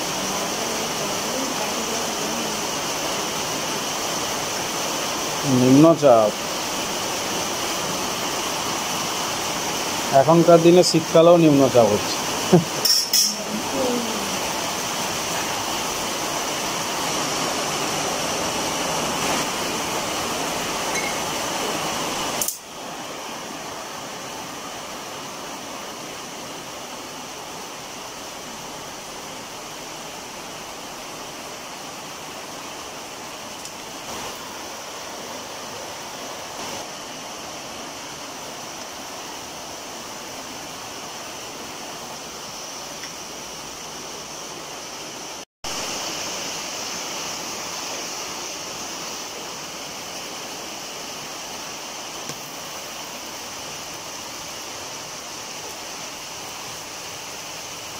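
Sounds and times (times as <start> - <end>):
heavy rain hissing: 0.0 - 57.9.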